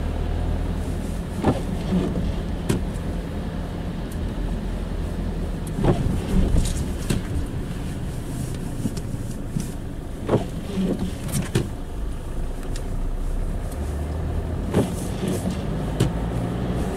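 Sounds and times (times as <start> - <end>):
car engine: 0.0 - 16.9
tyres on slushy street: 0.0 - 16.9.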